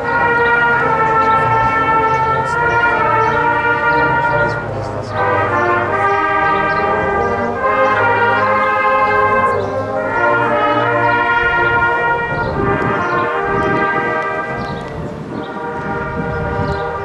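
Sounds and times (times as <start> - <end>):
brass choir playing chords: 0.0 - 17.0.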